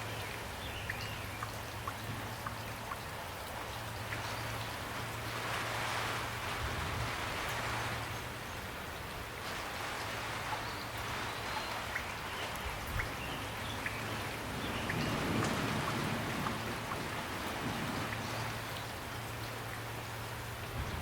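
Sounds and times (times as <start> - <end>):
raindrops ticking: 0.0 - 6.4, 7.4 - 21.0
gentle rain: 0.0 - 21.0.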